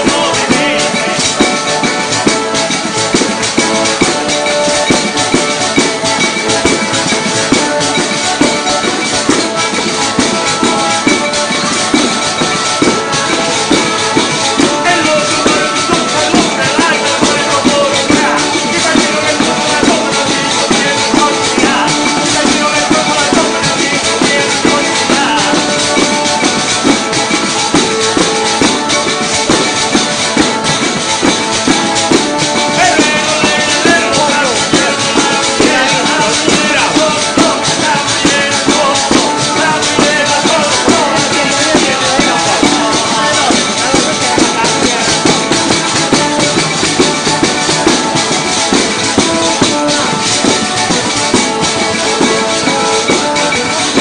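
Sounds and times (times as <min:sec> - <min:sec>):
bagpipe melody with drones: 0:00.0 - 0:54.0
button accordion: 0:00.0 - 0:54.0
tambourines jingling: 0:00.0 - 0:54.0.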